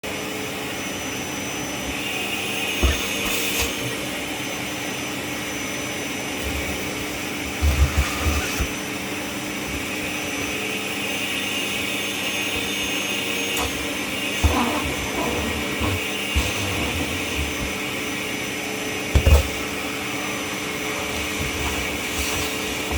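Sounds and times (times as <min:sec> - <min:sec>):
vacuum cleaner running: 0:00.1 - 0:22.9.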